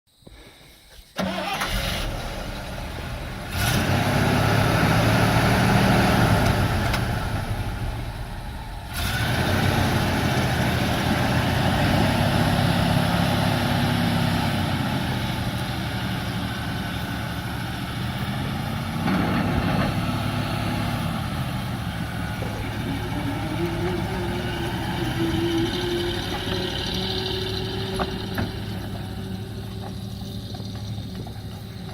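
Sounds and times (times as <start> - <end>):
truck engine revving and idling: 1.2 - 31.9.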